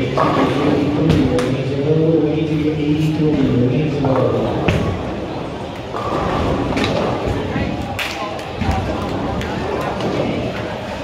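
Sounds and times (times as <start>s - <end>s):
noisy hall: 0.0s - 11.0s.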